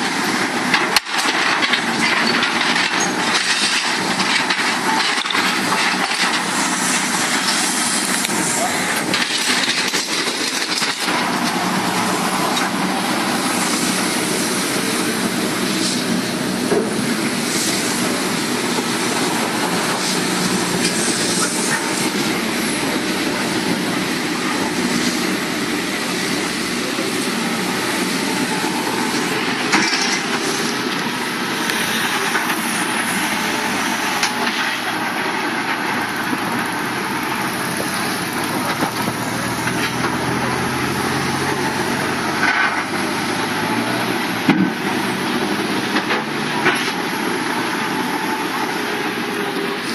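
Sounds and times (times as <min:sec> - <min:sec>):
excavator engine rumble: 0:00.0 - 0:49.9.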